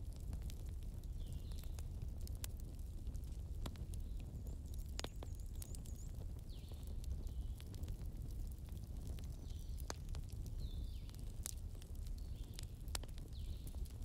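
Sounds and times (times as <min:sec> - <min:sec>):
fire crackling: 0:00.0 - 0:14.0
fire popping and snapping: 0:00.0 - 0:14.0.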